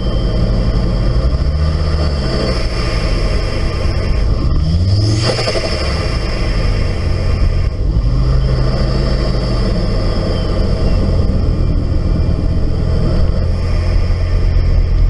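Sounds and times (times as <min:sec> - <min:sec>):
engine low rumble: 0:00.0 - 0:15.0
high-pitched engine note: 0:00.0 - 0:15.0.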